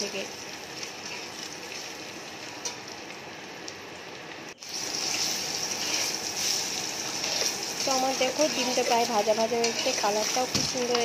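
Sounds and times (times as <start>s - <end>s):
eggs sizzling in hot oil: 0.0s - 11.0s.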